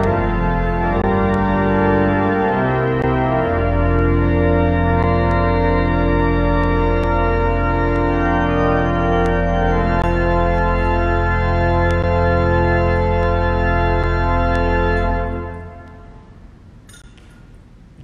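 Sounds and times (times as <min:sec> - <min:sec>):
church organ playing chords: 0:00.0 - 0:16.4.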